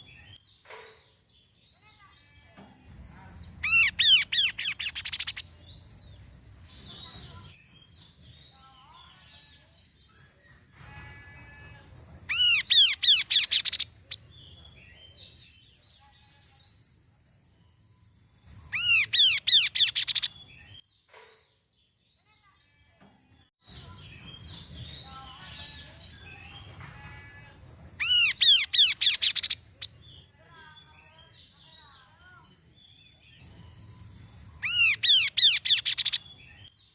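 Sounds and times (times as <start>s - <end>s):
bird chirps and twitters: 0.0s - 36.9s
bird singing rapid notes: 3.0s - 17.0s, 17.9s - 20.8s, 23.7s - 36.9s.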